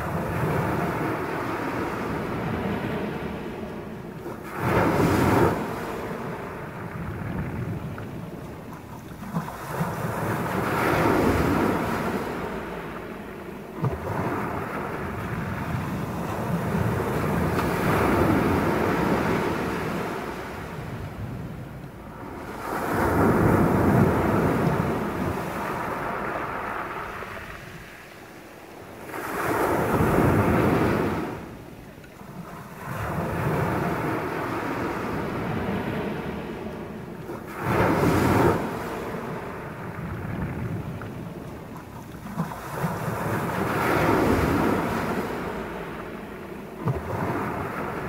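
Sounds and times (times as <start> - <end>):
waves washing up shingle beach: 0.0 - 21.2, 22.0 - 48.0.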